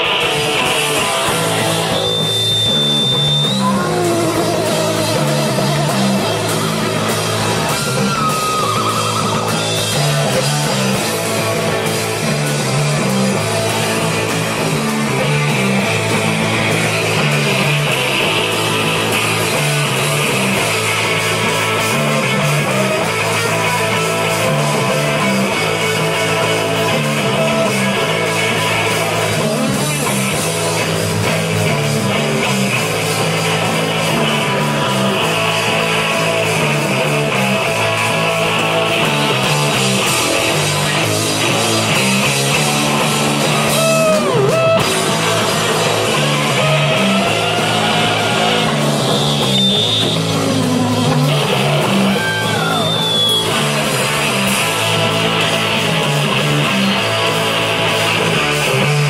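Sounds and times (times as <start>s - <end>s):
drum kit with cymbals: 0.0s - 59.0s
electric guitar: 0.0s - 59.0s
live rock band playing: 0.0s - 59.0s.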